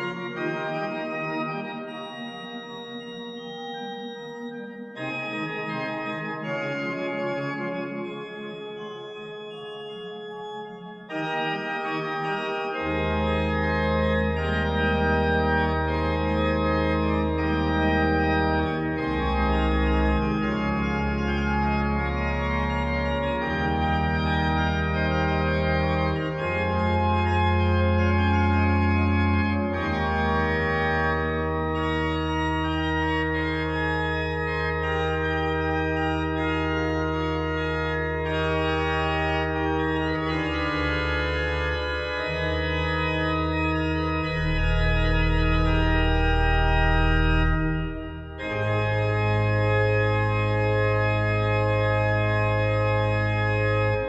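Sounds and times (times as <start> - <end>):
organ playing slow chords: 0.0 - 54.0.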